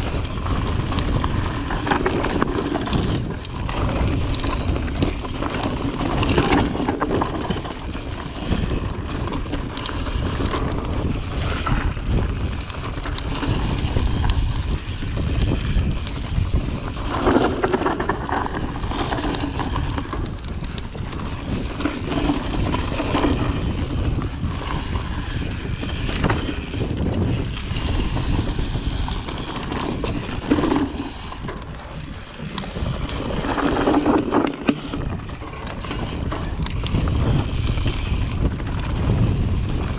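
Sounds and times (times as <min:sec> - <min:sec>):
bike tyres on dirt: 0:00.0 - 0:39.9
wind buffeting microphone: 0:00.0 - 0:39.9.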